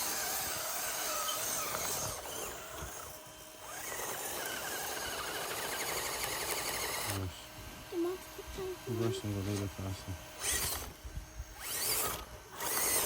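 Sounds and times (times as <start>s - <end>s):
toy car motor and gears whining: 0.0s - 13.0s.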